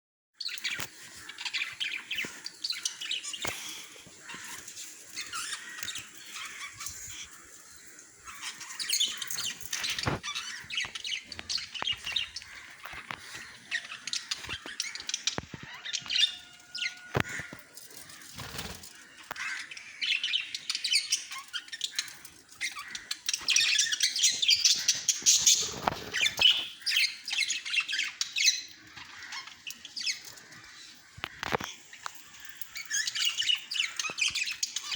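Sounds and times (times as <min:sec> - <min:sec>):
parrots chirping and chattering: 0:00.4 - 0:34.9.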